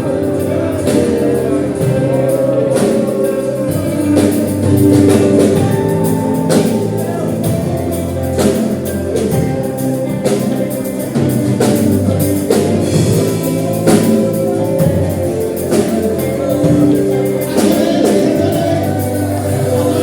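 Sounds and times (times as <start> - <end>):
gospel singing with band: 0.0 - 20.0
steady drum beat: 0.0 - 20.0.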